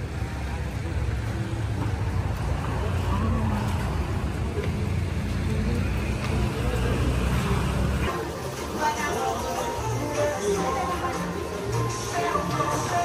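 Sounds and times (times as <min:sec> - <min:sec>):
faint indistinct voices: 0:00.0 - 0:13.0
street traffic rumble: 0:00.0 - 0:13.0.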